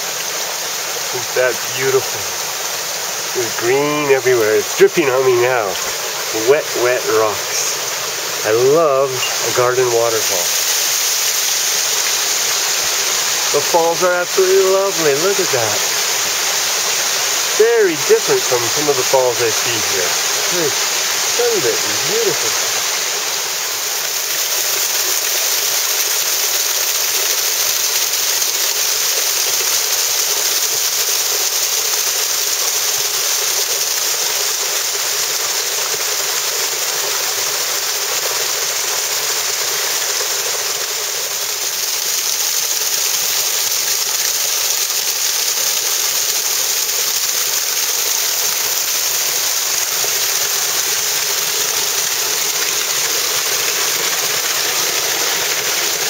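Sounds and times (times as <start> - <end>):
waterfall splashing over rocks: 0.0 - 56.0.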